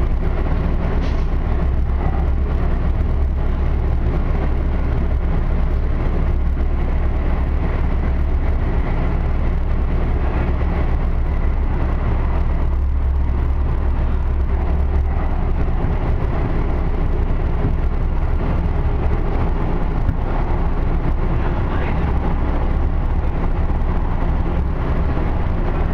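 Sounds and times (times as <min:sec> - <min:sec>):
train rumble from inside: 0:00.0 - 0:25.9.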